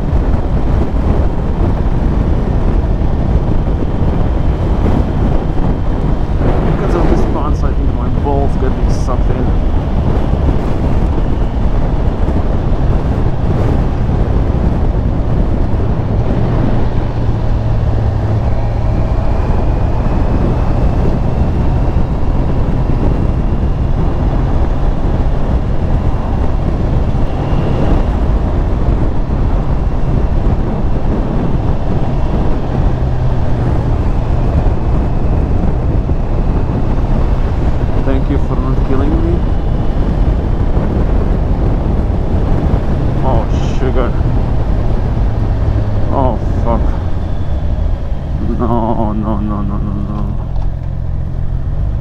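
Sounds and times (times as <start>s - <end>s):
motorcycle engine running: 0.0s - 52.0s
wind rush on microphone: 0.0s - 52.0s.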